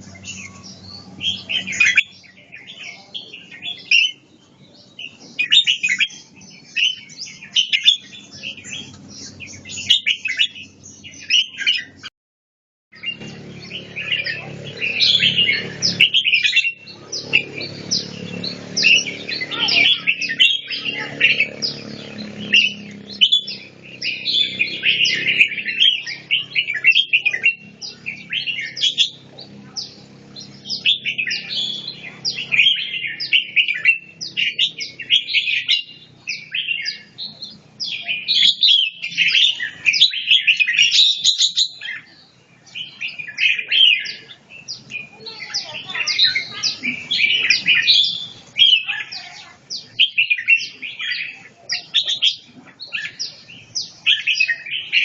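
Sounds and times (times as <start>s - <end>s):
bird singing warbled phrases: 0.0s - 12.1s, 13.0s - 55.0s.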